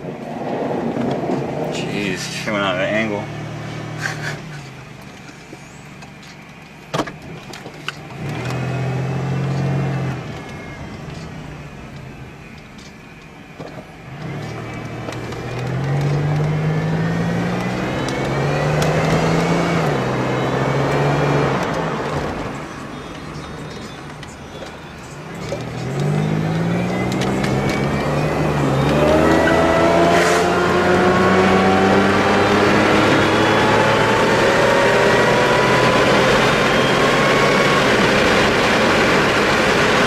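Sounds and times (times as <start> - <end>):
car engine accelerating: 0.0 - 40.0
supercharger whine: 0.0 - 40.0.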